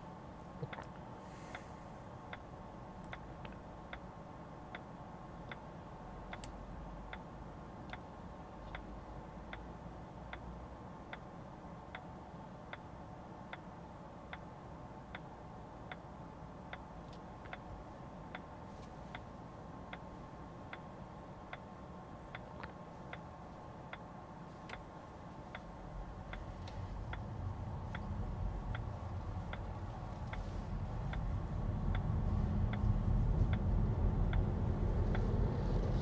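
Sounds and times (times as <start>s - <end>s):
low car cabin hum: 0.0s - 36.0s
turn signal ticking: 0.6s - 36.0s.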